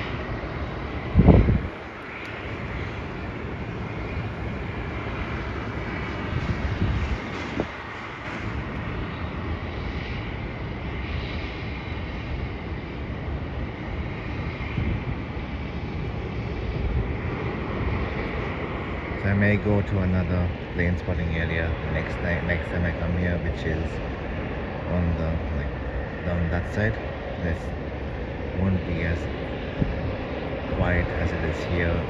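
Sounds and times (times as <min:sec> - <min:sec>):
jet airliner engines running: 0:00.0 - 0:32.0.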